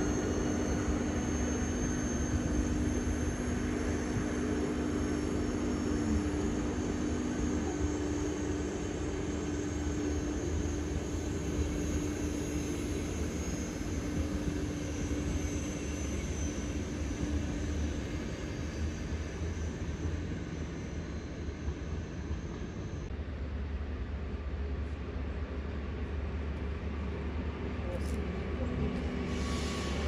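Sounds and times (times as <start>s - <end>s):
faint high whine: 0.0s - 30.0s
train rumbling by: 0.0s - 30.0s.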